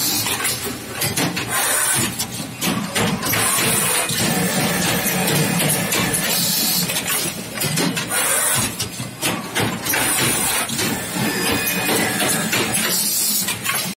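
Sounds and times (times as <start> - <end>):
sewing machine clatter: 0.0 - 14.0.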